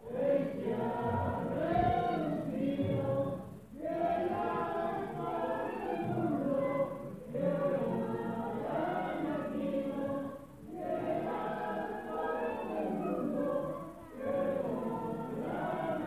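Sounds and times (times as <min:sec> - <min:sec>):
group singing a hymn: 0:00.0 - 0:16.0.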